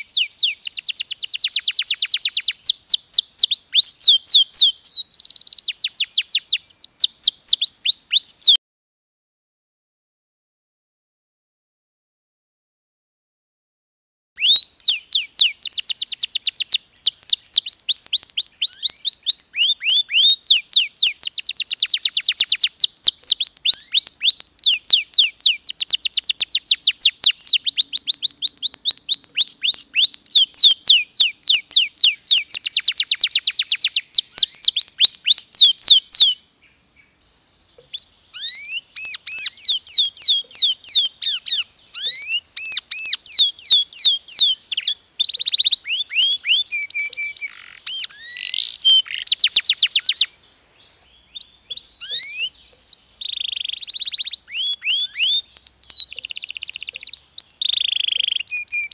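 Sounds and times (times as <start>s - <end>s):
canary singing trills: 0.0s - 8.6s, 14.4s - 58.9s.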